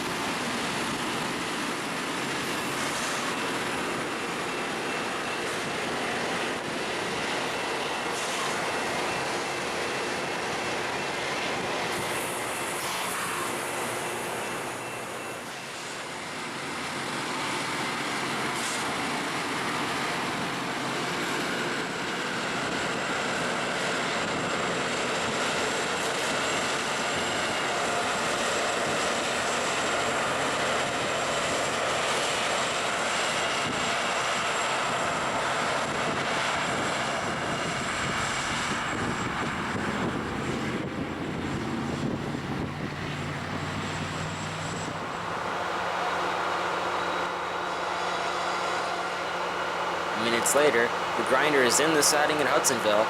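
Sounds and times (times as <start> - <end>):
rail grinder grinding hiss: 0.0 - 53.0.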